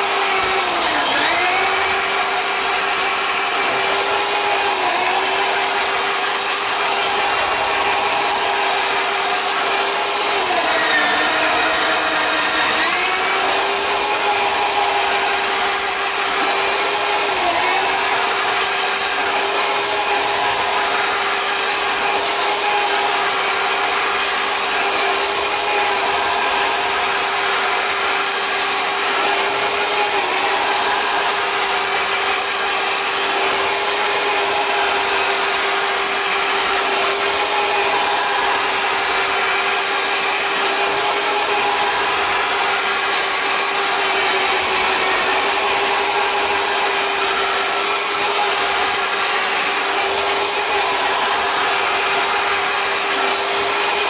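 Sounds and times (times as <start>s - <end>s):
drain snake motor whining: 0.0s - 54.0s.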